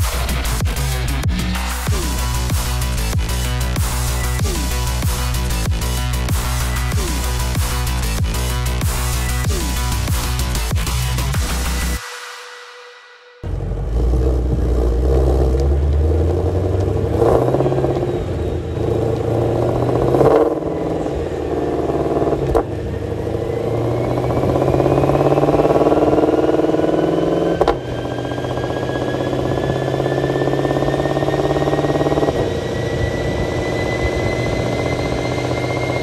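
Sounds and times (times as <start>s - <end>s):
engine revving: 0.0s - 12.0s, 13.4s - 36.0s
supercharger whine: 0.0s - 12.0s, 13.4s - 36.0s.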